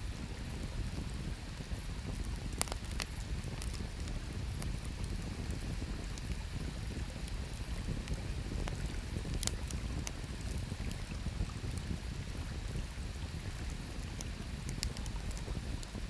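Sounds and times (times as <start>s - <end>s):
campfire crackling and popping: 0.6s - 16.0s.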